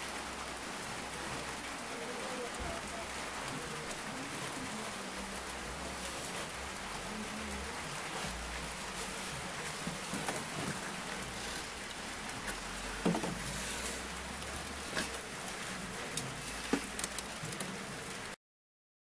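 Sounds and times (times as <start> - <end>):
rain drips: 0.0 - 18.4
steady rain: 0.0 - 18.4.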